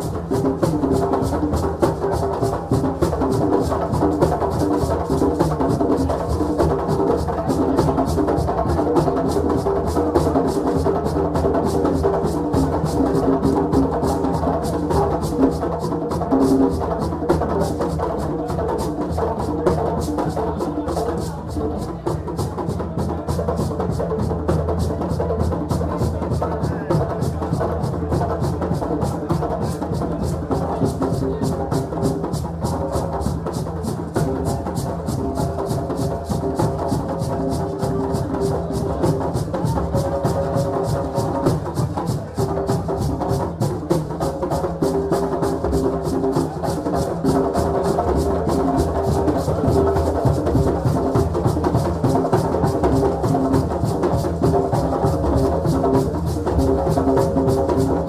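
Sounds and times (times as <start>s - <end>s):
fast drum rhythm: 0.0s - 58.0s.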